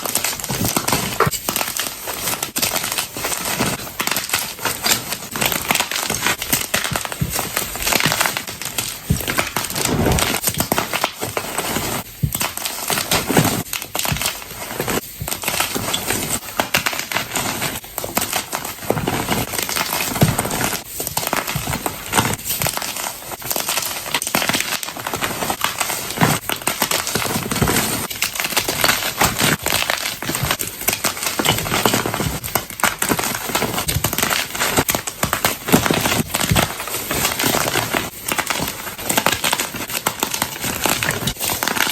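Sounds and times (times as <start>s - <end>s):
chalk blocks being crushed: 0.0s - 41.9s.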